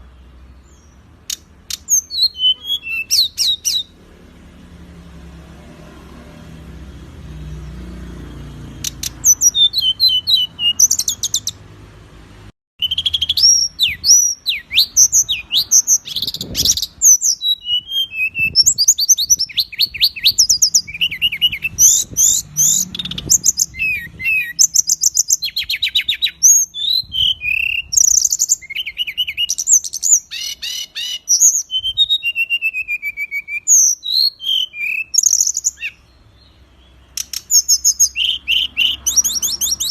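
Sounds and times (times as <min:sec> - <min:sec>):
songbird singing fast chirps: 0:00.0 - 0:04.0, 0:07.3 - 0:11.6, 0:12.8 - 0:39.9.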